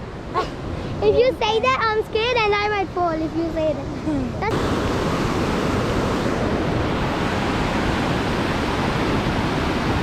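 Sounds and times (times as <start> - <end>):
rush of flowing water: 0.0 - 10.0.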